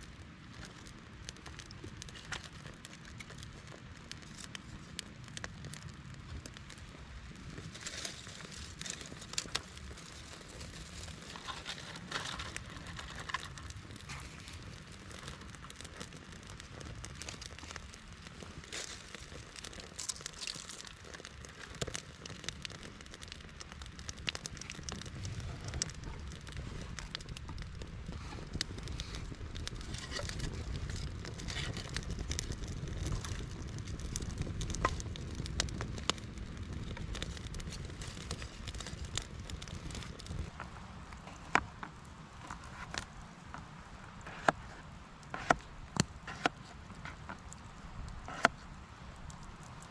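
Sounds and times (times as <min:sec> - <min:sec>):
crackling and rustling: 0:00.0 - 0:49.9.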